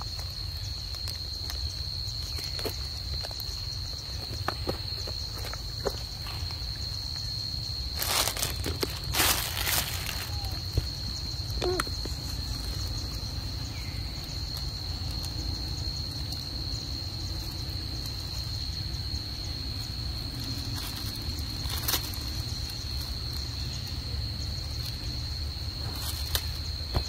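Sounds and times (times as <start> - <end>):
high-pitched insect drone: 1.6 - 27.0.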